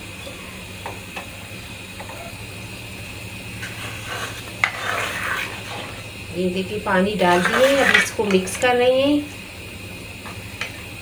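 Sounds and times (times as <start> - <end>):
pot hissing on stove: 0.0 - 11.0.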